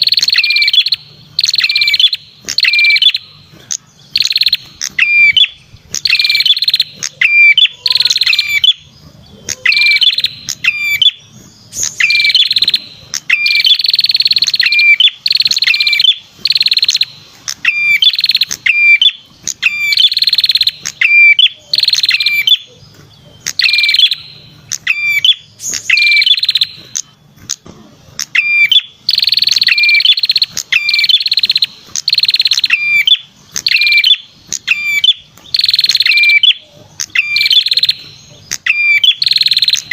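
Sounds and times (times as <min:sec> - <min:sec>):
bird buzzy trills: 0:00.0 - 0:39.9
sharp bird chirps: 0:00.0 - 0:39.9.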